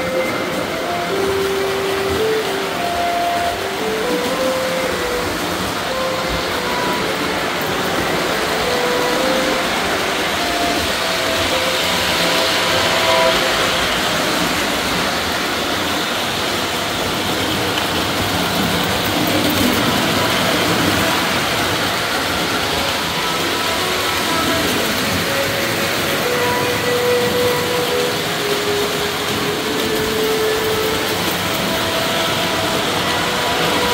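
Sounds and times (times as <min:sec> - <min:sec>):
toy train wheels and motor rumbling: 0:00.0 - 0:33.9.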